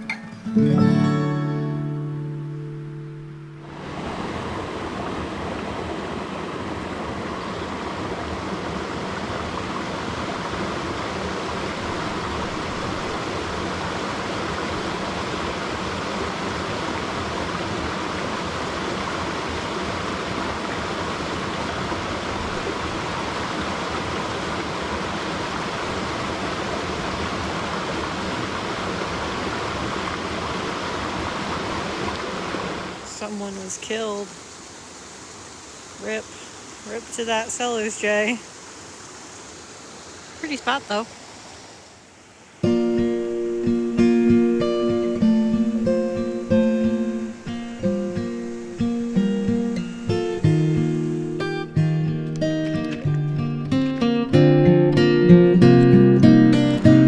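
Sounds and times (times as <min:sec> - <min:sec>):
flowing stream water: 0:00.0 - 0:57.0.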